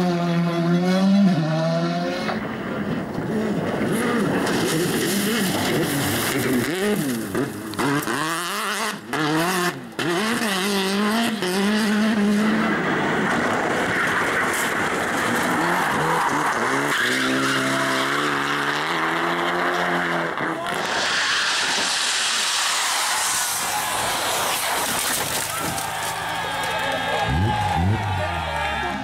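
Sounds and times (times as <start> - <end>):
rally car engines revving: 0.0 - 29.0
tyres skidding: 2.2 - 29.0.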